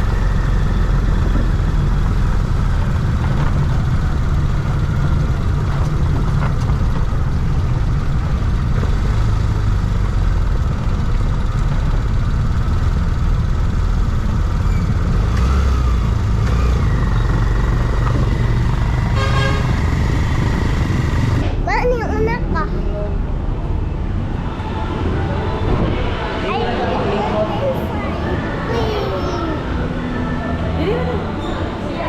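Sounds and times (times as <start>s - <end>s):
motor vehicle engine rumble: 0.0s - 32.0s.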